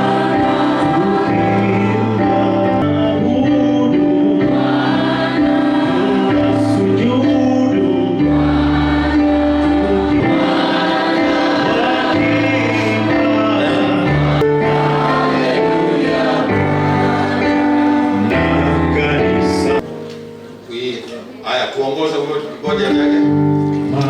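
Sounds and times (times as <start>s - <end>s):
held bass notes: 0.0s - 21.0s
choir singing gospel: 0.0s - 21.2s.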